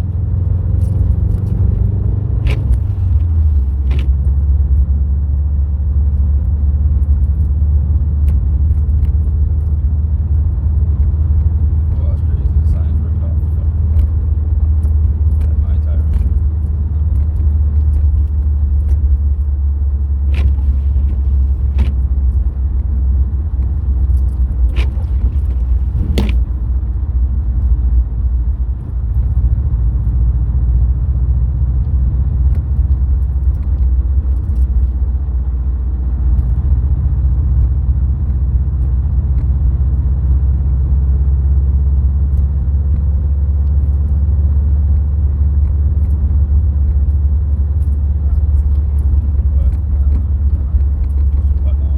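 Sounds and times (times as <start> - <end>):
car engine and road rumble: 0.0 - 51.9.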